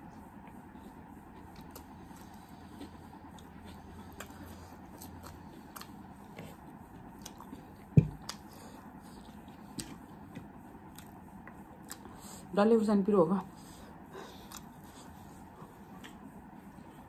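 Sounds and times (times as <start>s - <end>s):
chewing: 0.4s - 12.2s, 14.2s - 16.3s.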